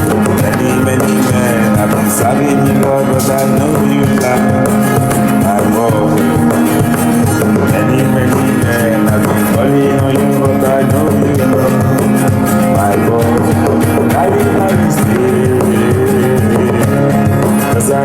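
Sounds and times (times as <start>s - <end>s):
worship music with singing: 0.0s - 18.0s.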